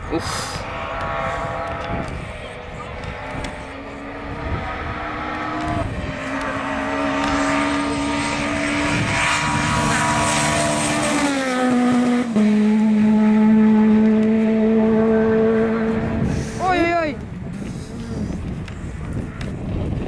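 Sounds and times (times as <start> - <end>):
rally car engine at high revs: 0.0 - 16.8.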